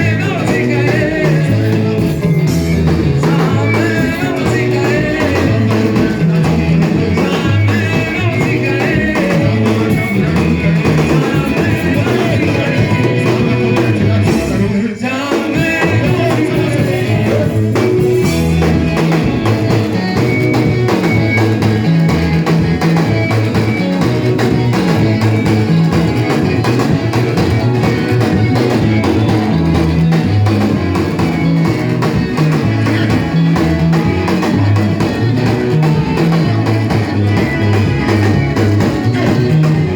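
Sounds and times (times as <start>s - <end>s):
voices singing: 0.0s - 39.9s
worship band playing: 0.0s - 39.9s.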